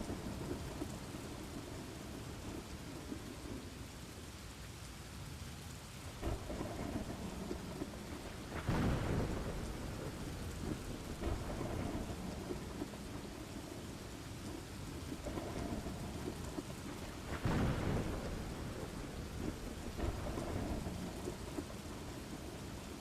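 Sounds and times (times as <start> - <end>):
thunder rumbling: 0.0 - 3.8, 6.2 - 23.0
rain falling: 0.0 - 23.0.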